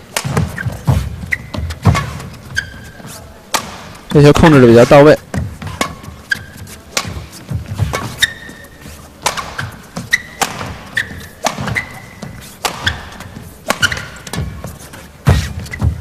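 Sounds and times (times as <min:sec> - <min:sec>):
footsteps thudding: 0:00.0 - 0:16.0
shoes squeaking on court: 0:00.0 - 0:16.0
rackets striking shuttlecock: 0:00.1 - 0:02.8, 0:03.4 - 0:04.1, 0:04.9 - 0:16.0.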